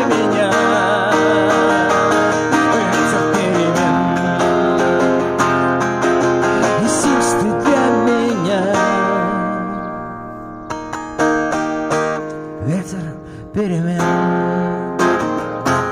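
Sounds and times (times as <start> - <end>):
strummed acoustic guitar: 0.0 - 15.9.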